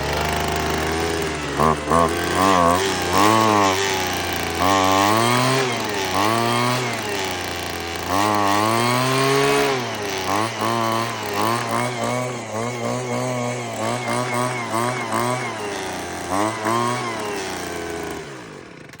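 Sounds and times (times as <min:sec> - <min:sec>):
leaf blower engine revving: 0:00.0 - 0:19.0.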